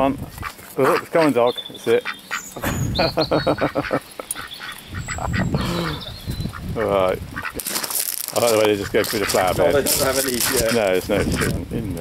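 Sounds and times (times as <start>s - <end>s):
ducks quacking: 0.0s - 11.6s.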